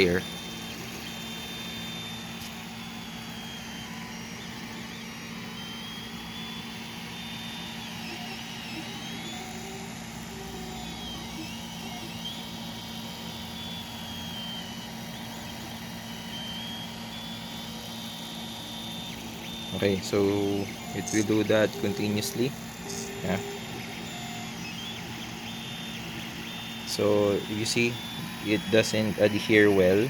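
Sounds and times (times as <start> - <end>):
cooling fans humming: 0.0 - 30.0
stepper motors whining: 0.0 - 30.0.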